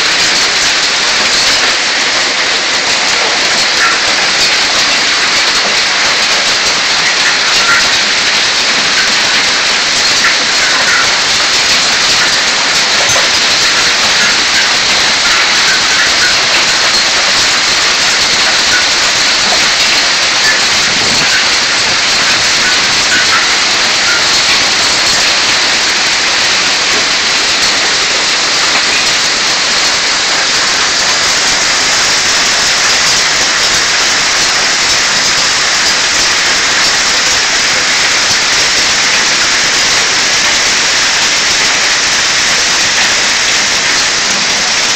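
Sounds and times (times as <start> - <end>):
heavy rain and hail: 0.0 - 44.9.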